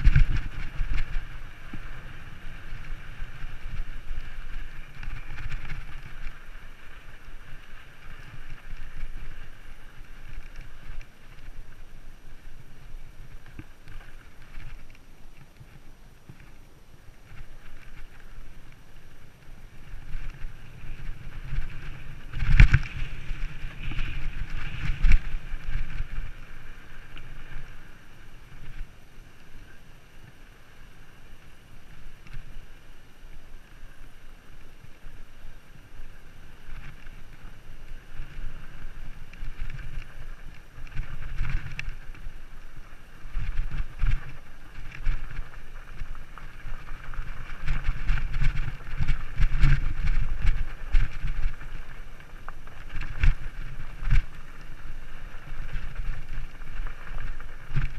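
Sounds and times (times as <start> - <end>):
wind buffeting microphone: 0.0 - 15.0, 17.2 - 28.9, 36.1 - 57.9
bicycle jolting over bumps: 0.0 - 15.8, 17.2 - 29.6, 35.6 - 57.9
bicycle tyres rattling on dirt trail: 0.0 - 57.9.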